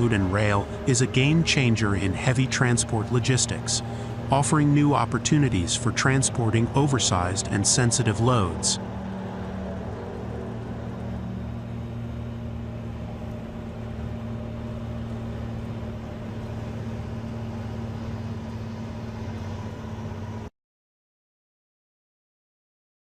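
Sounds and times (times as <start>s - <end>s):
heavy vehicle engine humming: 0.0s - 20.5s.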